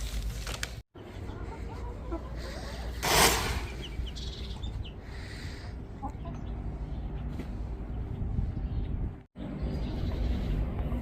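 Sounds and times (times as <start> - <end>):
birds calling: 1.0 - 11.0.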